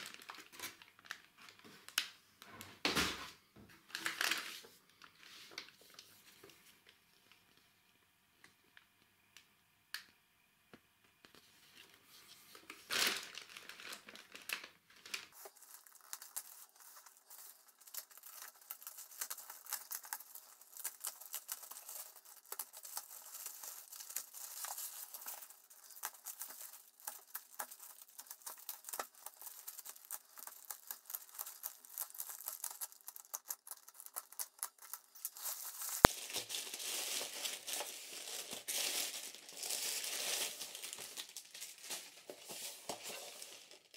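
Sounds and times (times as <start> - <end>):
plastic wrapping tearing and crackling: 0.0 - 2.1, 3.9 - 6.1, 12.6 - 43.9.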